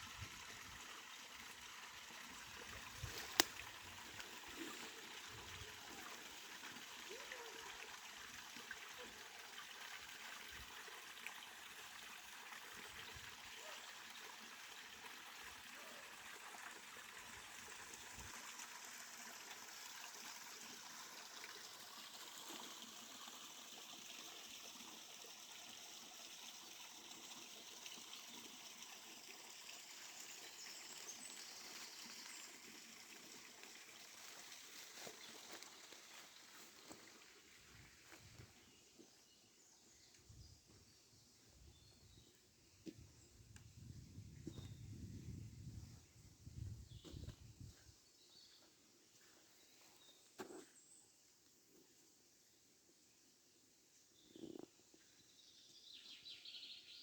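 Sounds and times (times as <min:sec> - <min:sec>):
faint running stream water: 0:00.0 - 0:44.8, 0:45.7 - 0:57.0.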